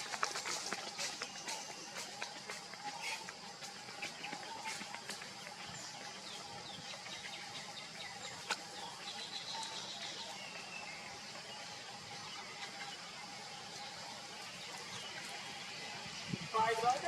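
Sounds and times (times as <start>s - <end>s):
bird chirps: 2.9s - 17.0s.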